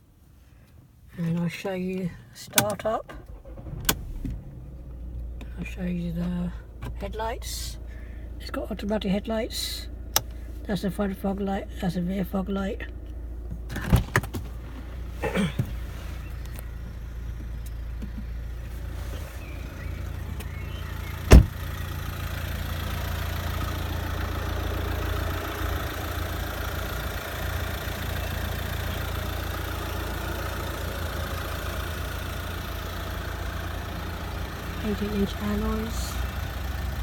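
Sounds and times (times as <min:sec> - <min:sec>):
diesel engine idling: 0:03.2 - 0:13.8, 0:14.5 - 0:37.0.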